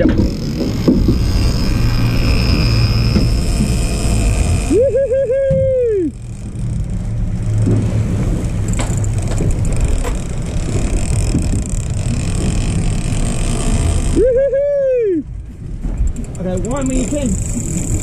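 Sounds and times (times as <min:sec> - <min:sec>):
outboard motor rumble: 0:00.0 - 0:18.0
water washing past hull: 0:00.0 - 0:18.0.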